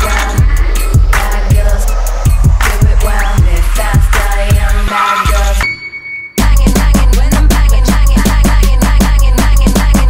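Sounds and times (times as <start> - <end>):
music with fast steady beat: 0.0 - 10.0.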